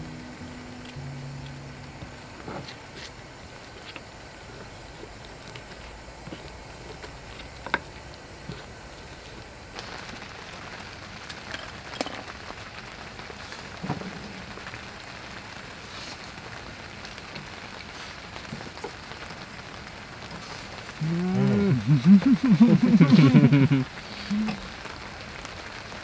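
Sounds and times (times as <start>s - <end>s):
rain pattering on a tent: 0.0s - 26.0s.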